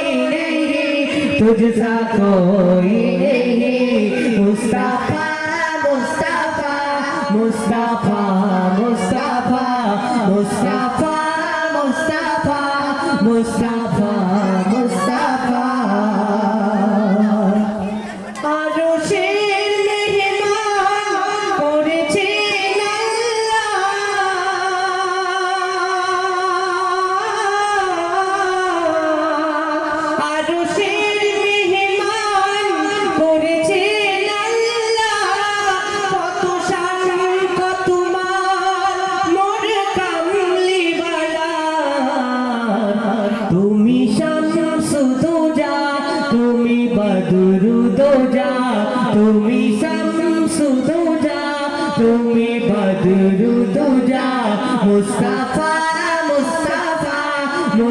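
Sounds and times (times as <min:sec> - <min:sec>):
person singing devotional song: 0:00.0 - 0:57.9.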